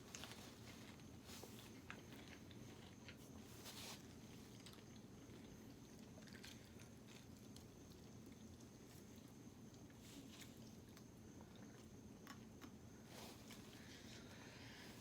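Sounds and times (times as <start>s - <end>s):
faint chewing: 0.0s - 14.6s.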